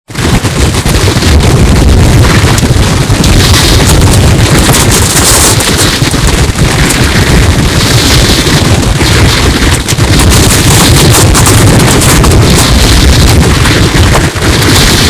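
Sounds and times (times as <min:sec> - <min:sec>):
distorted wind roar on microphone: 0:00.1 - 0:15.0
low rumbling and crackling: 0:00.1 - 0:15.0.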